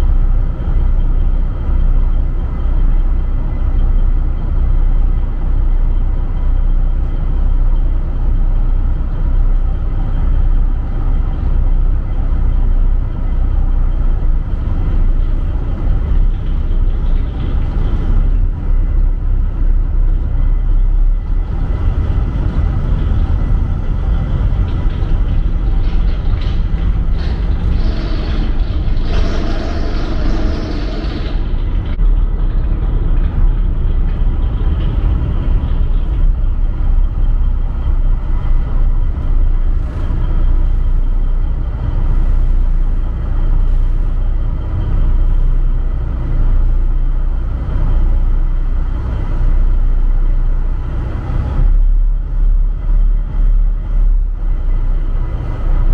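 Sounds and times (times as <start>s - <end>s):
heavy engine rumbling: 0.0s - 55.9s.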